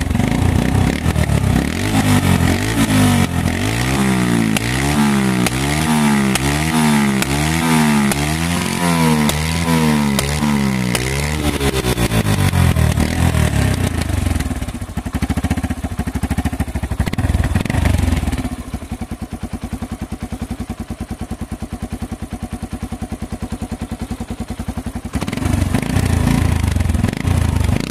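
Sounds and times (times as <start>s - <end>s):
motorcycle engine revving and idling: 0.0s - 27.9s.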